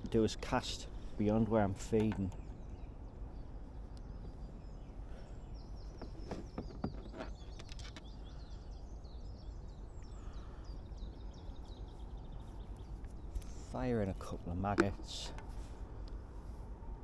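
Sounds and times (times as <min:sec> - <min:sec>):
small birds chirping: 0:00.0 - 0:16.8
low outdoor hum: 0:00.0 - 0:17.0.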